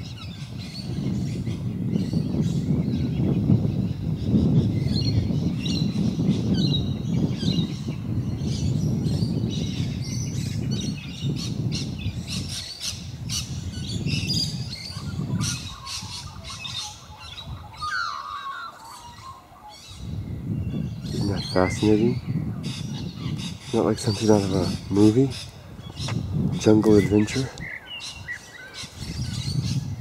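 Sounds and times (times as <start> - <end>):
birds chirping and squawking: 0.0 - 30.0
harsh low bird call: 0.0 - 30.0.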